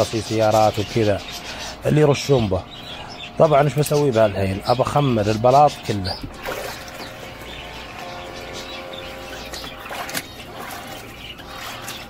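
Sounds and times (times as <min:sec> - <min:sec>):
birds chirping: 0:00.0 - 0:12.0
pump whining: 0:00.0 - 0:12.0.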